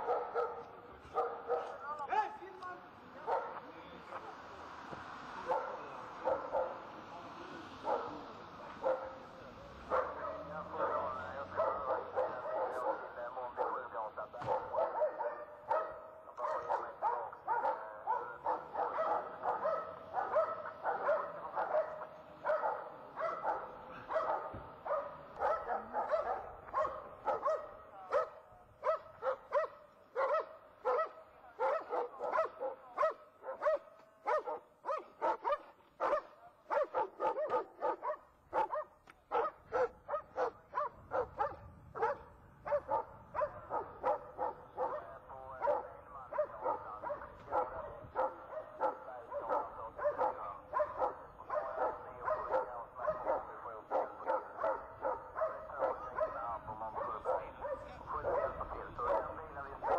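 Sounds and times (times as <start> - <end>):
dog barking: 0.0 - 2.4, 3.2 - 3.7, 5.4 - 7.0, 7.7 - 59.9.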